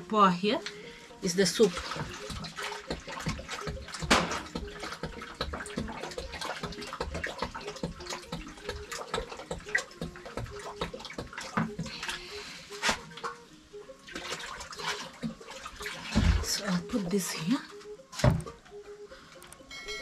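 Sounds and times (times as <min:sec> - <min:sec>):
water splashing in a basin: 0:01.3 - 0:13.4, 0:14.0 - 0:18.6.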